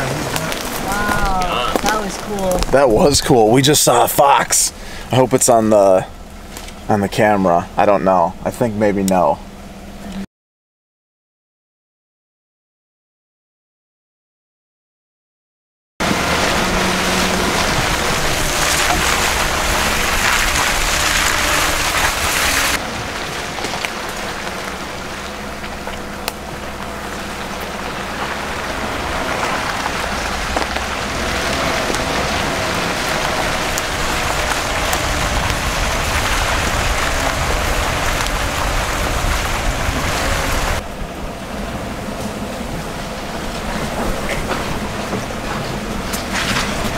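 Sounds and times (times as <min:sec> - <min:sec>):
tyres rushing on dirt trail: 0:00.0 - 0:09.4, 0:16.0 - 0:46.9
truck engine running low: 0:00.0 - 0:10.3, 0:16.0 - 0:46.9.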